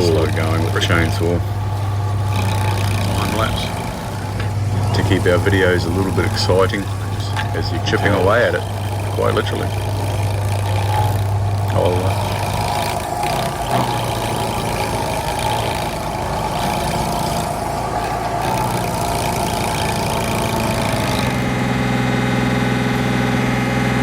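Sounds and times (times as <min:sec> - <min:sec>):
heavy machinery engine running: 0:00.0 - 0:24.0
smooth engine hum: 0:00.0 - 0:24.0.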